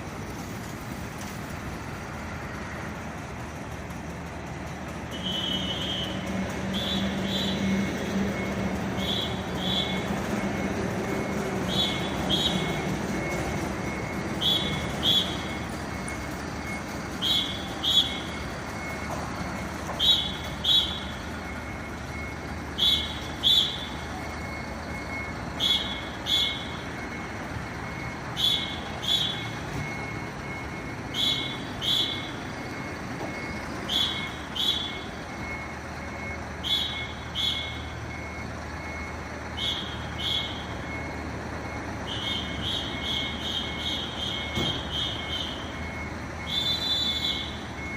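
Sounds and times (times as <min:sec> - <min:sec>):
vehicle engine running: 0:00.0 - 0:47.9
high warning beeps: 0:05.1 - 0:47.9.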